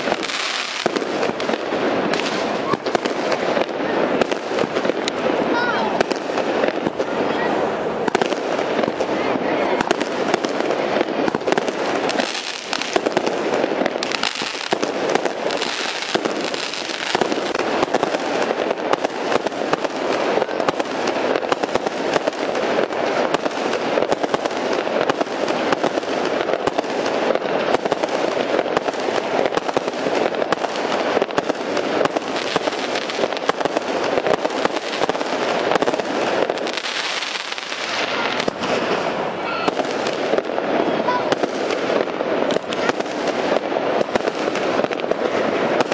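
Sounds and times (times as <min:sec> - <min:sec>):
firework crackle: 0:00.0 - 0:45.9
fireworks barrage bangs: 0:00.0 - 0:45.9.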